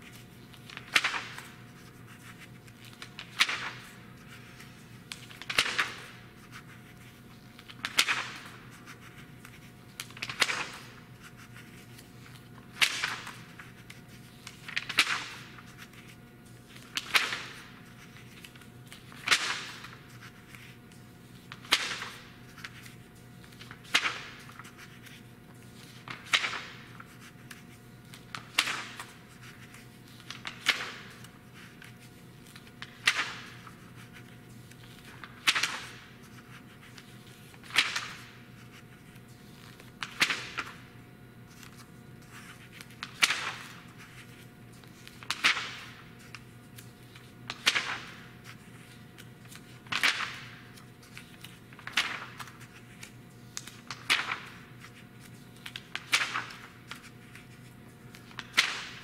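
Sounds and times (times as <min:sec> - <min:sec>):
magazine pages turning: 0:00.0 - 0:59.0.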